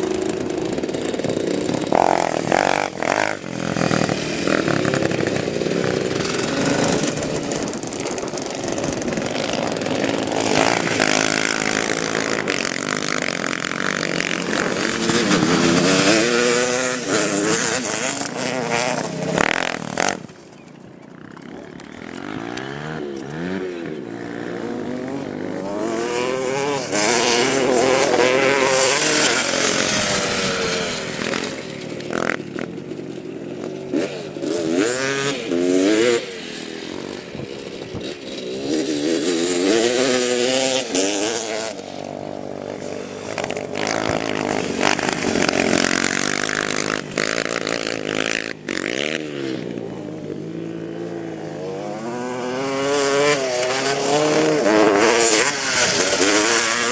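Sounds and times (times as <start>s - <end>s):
small motorcycle engine revving: 0.0s - 56.9s.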